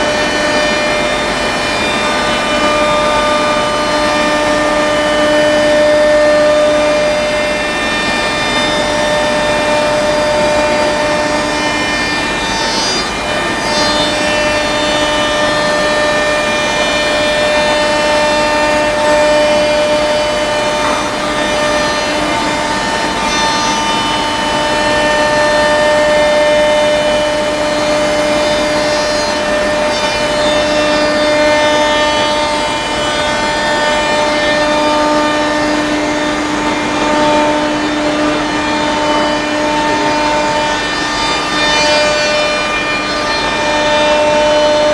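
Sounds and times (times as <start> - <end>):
router spindle whine: 0.0 - 44.9.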